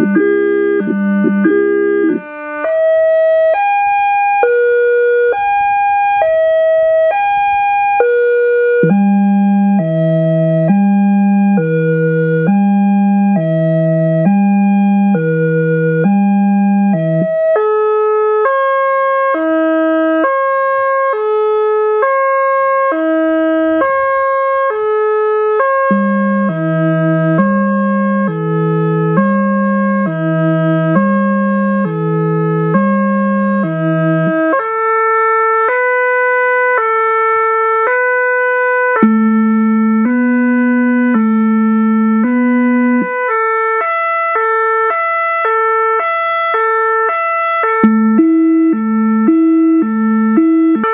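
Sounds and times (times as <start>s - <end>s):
deep low siren tone: 0.0s - 50.9s
electronic siren stepped tones: 0.0s - 50.9s.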